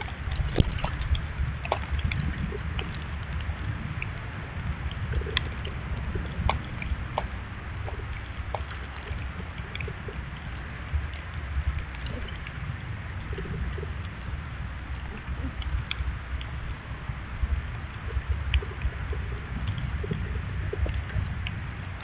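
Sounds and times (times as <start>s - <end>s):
light ticks and drips: 0.0s - 22.0s
low rumble and hiss: 0.0s - 22.0s.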